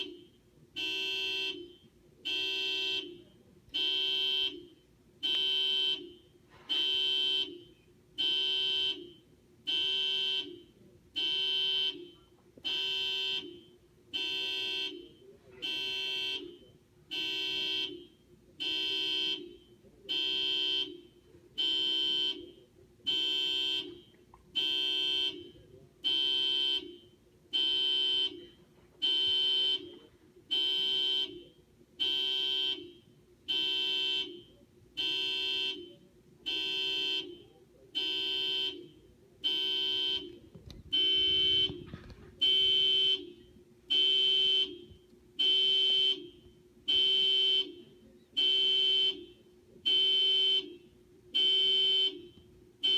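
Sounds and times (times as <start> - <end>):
car alarm honking horn: 0.0 - 52.9.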